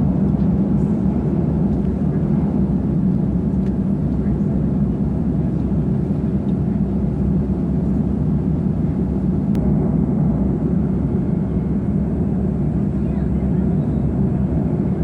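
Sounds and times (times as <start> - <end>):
jet airliner cabin drone: 0.0 - 15.0.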